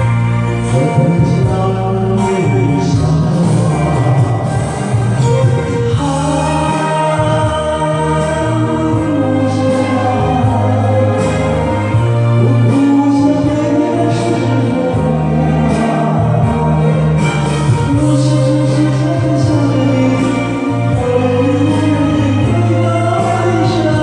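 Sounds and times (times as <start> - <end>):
music backing track: 0.0 - 24.0
person singing a slow ballad: 0.0 - 24.0.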